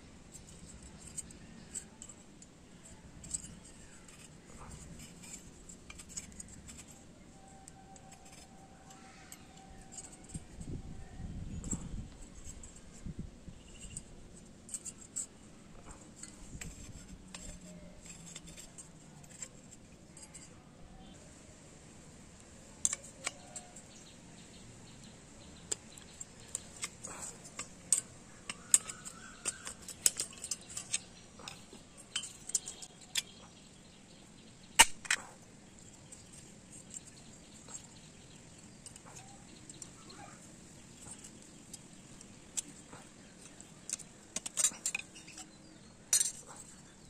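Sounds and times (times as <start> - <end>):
metal parts and tools clinking: 0.3 - 21.2, 22.6 - 47.0.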